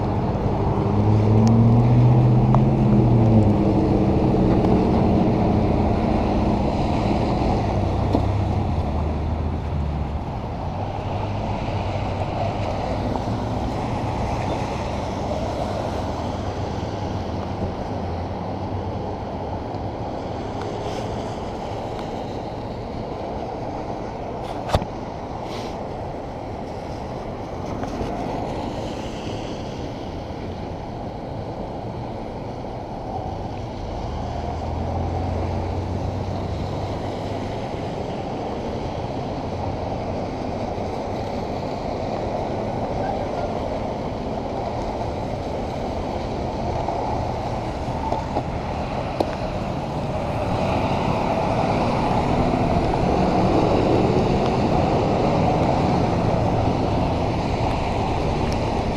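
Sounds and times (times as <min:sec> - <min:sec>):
bicycle tyres on wet road: 0:00.0 - 0:58.9
wind rushing over microphone: 0:00.0 - 0:58.9.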